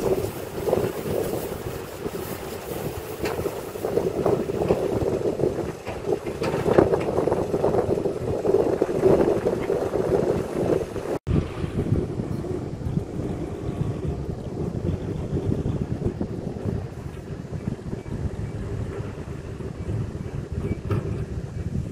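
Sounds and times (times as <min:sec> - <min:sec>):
excavator diesel engine under load: 0:00.0 - 0:21.9.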